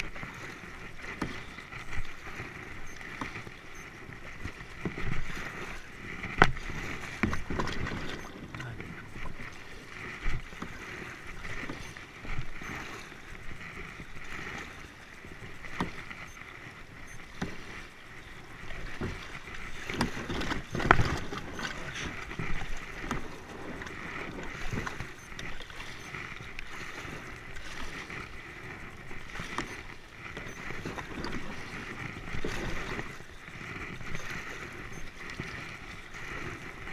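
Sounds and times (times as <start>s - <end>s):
paddle strokes splashing: 0.0s - 36.9s
water splashing around kayak: 0.0s - 36.9s.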